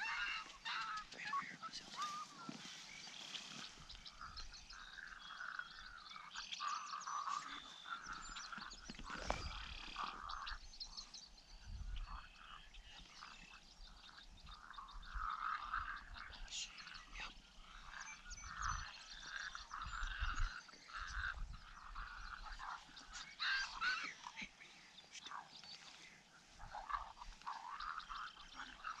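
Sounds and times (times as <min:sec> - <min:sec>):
frogs croaking: 0:00.0 - 0:29.0.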